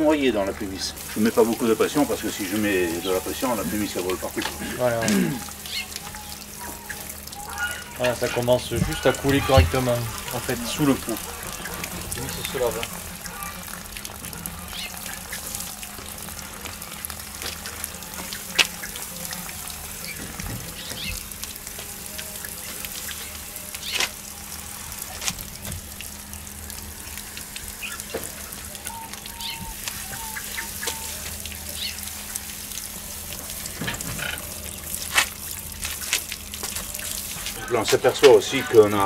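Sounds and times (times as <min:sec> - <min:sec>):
hose nozzle spraying water: 0:00.7 - 0:39.0.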